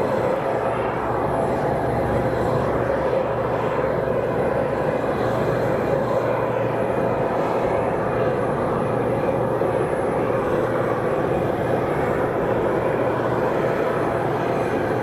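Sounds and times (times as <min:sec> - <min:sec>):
jet engines during landing rollout: 0:00.0 - 0:15.0.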